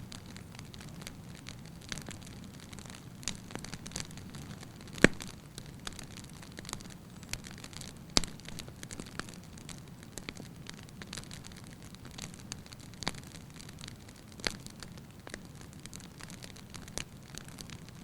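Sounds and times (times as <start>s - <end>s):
fire flames rumbling: 0.0s - 18.0s
logs crackling and popping: 0.0s - 18.0s.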